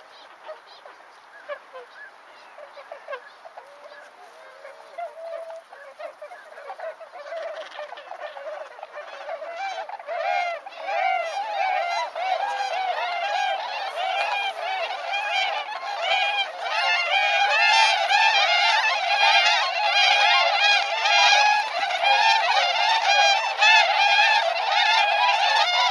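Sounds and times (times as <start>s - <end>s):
swans honking: 0.0s - 25.9s.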